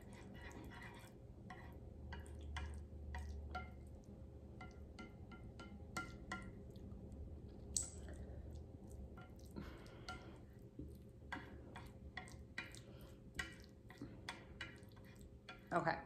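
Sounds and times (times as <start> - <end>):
soft wet stirring: 0.0 - 16.0.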